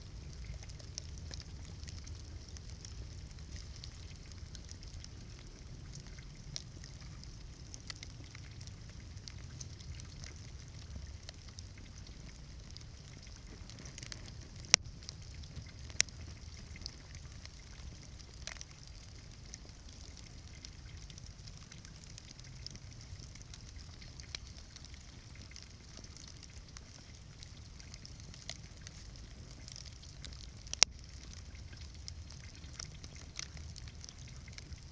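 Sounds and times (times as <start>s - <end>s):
bonfire crackling: 0.0s - 34.9s.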